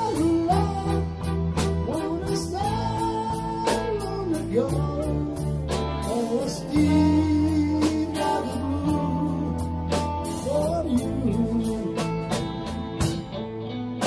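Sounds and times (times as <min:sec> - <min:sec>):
bass guitar: 0:00.0 - 0:14.0
drums: 0:00.0 - 0:14.0
electric guitar lead melody: 0:00.0 - 0:14.0.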